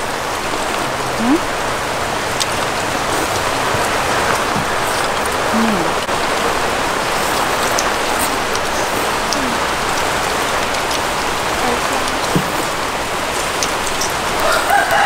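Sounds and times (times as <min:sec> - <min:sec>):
steady rain falling: 0:00.0 - 0:15.0
faint clicks: 0:02.4 - 0:14.5.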